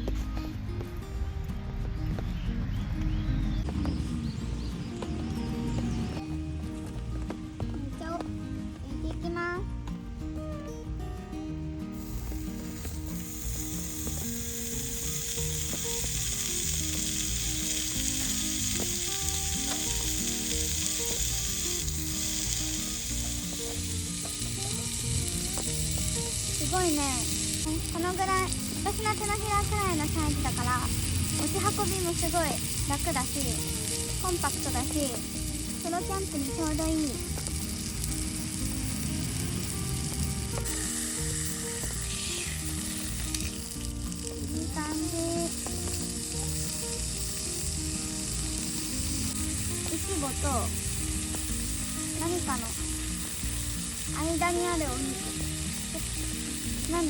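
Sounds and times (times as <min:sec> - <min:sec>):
meat sizzling on a griddle: 0:03.6 - 0:06.5, 0:11.8 - 0:57.0.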